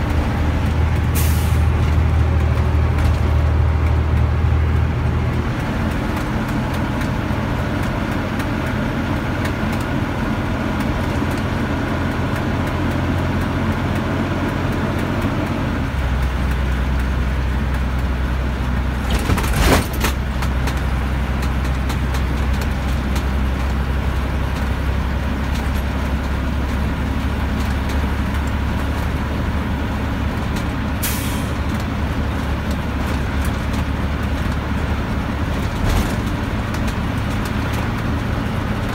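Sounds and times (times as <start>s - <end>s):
bus engine running: 0.0s - 38.9s
road noise: 0.0s - 38.9s.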